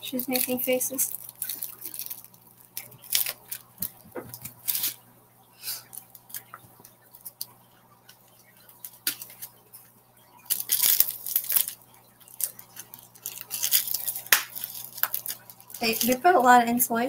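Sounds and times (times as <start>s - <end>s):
foil packaging crinkling: 0.0s - 5.0s, 5.8s - 16.8s.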